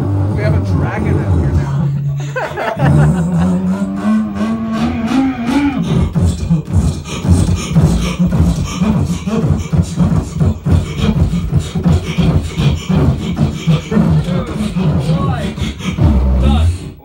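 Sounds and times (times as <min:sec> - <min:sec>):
person beatboxing: 0:00.0 - 0:17.0.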